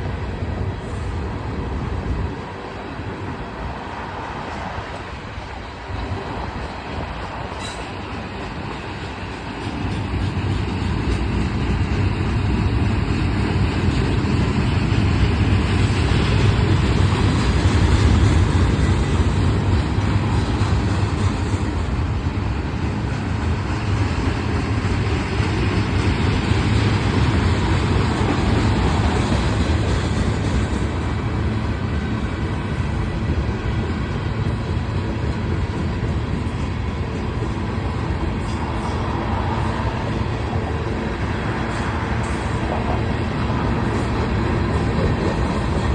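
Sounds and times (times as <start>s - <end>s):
freight train rumbling past: 0.0s - 45.9s.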